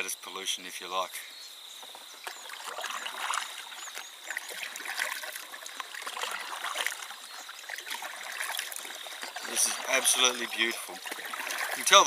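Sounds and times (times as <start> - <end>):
water splashing around canoe: 2.1 - 12.0.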